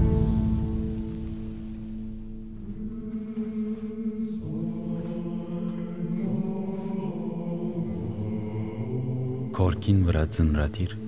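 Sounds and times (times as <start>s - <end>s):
low sustained chanting voices: 0.0s - 11.0s.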